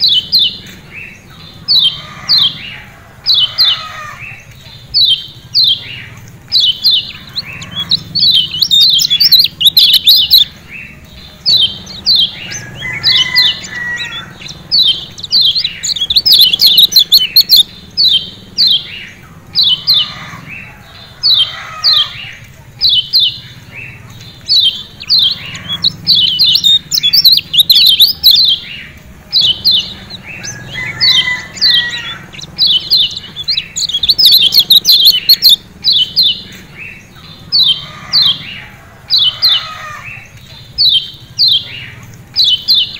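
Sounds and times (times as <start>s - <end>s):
bird chirping in rapid bursts: 0.0s - 42.9s.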